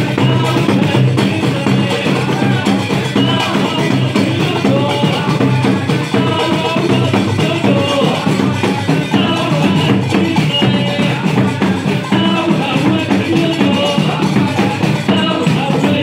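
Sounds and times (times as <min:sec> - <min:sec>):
clattering percussion: 0:00.0 - 0:16.0
hand drum rhythm: 0:00.0 - 0:16.0
voices chanting: 0:00.0 - 0:16.0.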